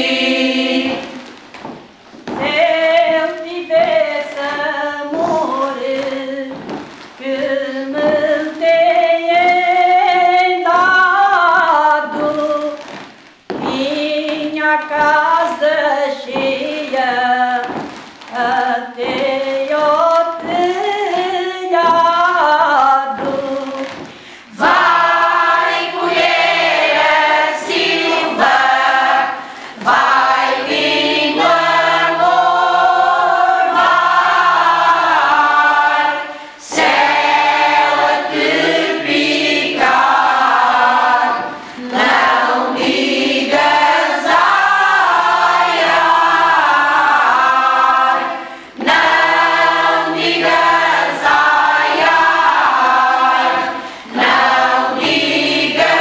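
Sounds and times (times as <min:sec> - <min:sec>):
women's choir singing unaccompanied: 0:00.0 - 0:13.0, 0:13.7 - 0:56.0.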